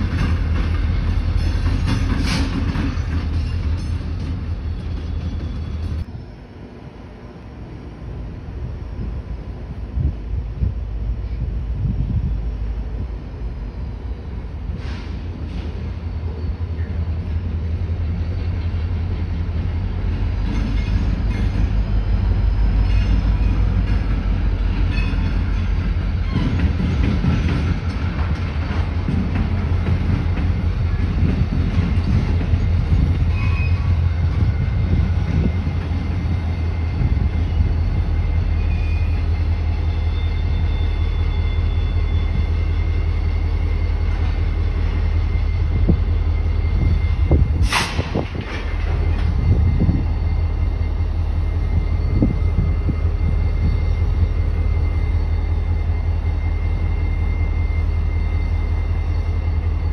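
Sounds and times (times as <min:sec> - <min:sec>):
locomotive engine rumble: 0:00.0 - 0:59.9.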